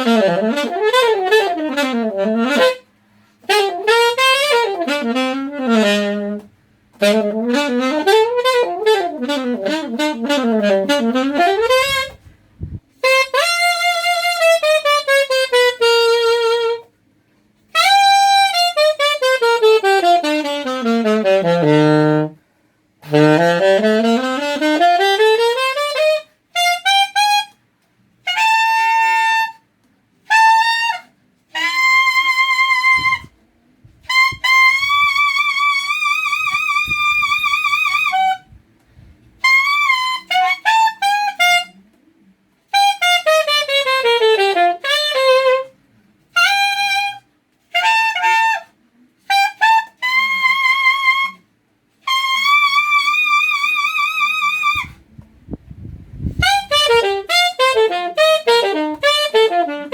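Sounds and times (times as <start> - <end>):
alto saxophone playing scale runs: 0.0 - 17.0, 17.6 - 22.4, 23.0 - 41.8, 42.7 - 55.1, 55.7 - 59.9.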